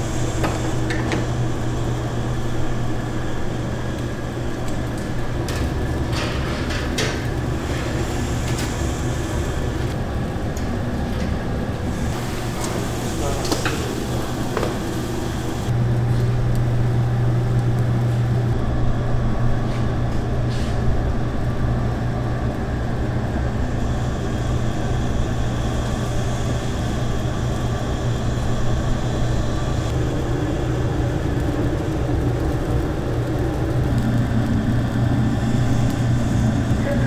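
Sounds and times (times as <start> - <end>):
low mechanical drone: 0.0 - 37.0.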